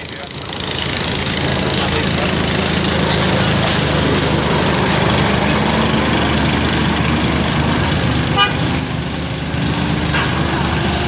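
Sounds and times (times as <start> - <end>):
bus diesel engine running: 0.0 - 11.0
tyres on gravel road: 0.0 - 11.0.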